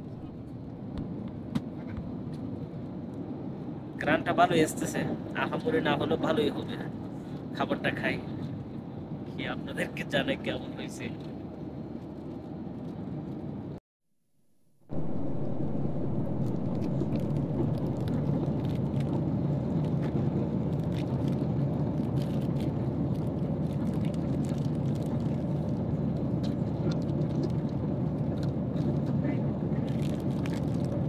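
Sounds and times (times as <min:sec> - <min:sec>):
airliner cabin drone: 0:00.0 - 0:13.8, 0:14.8 - 0:31.0.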